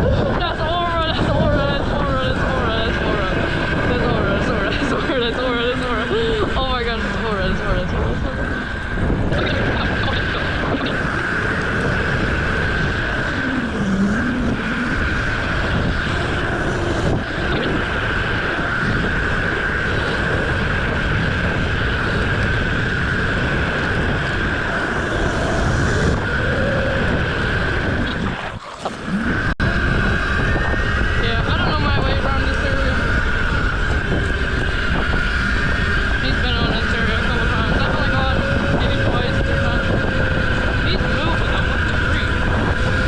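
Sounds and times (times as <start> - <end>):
mini bike engine whining: 0.0 - 43.0
wind on microphone: 0.0 - 43.0.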